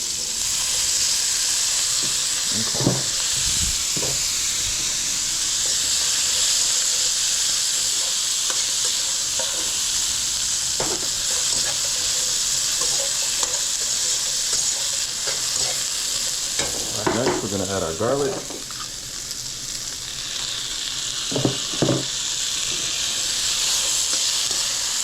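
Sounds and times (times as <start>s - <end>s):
vegetables sizzling in oil: 0.0s - 25.0s.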